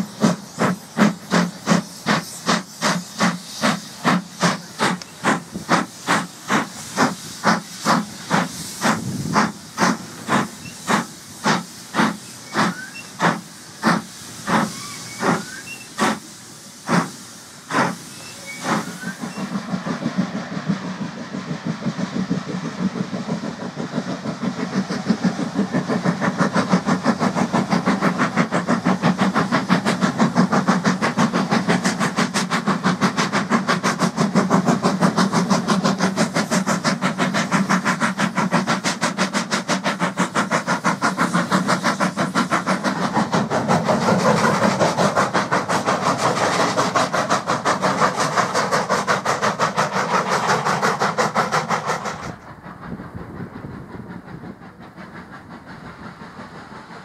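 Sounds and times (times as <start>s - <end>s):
steam locomotive exhaust beats: 0.0s - 57.0s
train rumble: 0.0s - 57.0s.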